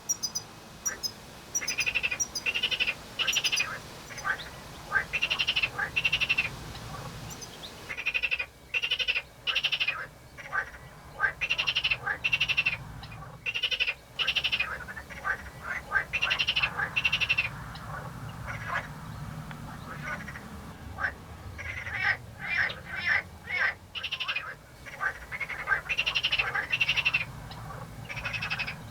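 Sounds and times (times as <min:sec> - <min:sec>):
frogs croaking: 0:00.0 - 0:28.9.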